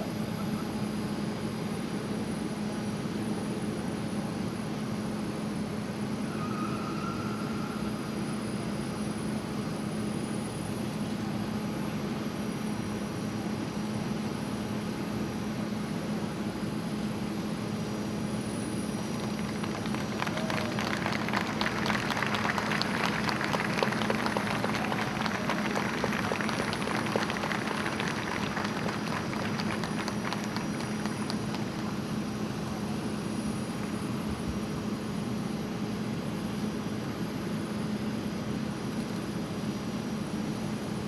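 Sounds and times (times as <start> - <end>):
jet engines droning: 0.0 - 41.0.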